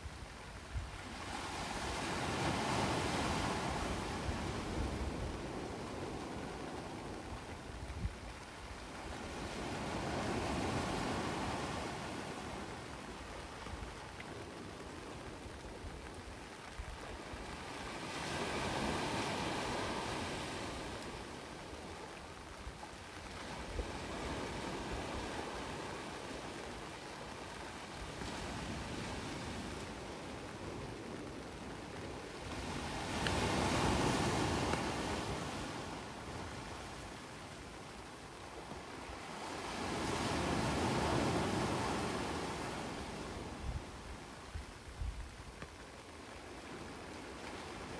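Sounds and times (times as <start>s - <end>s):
sea waves surging: 0.0s - 45.0s.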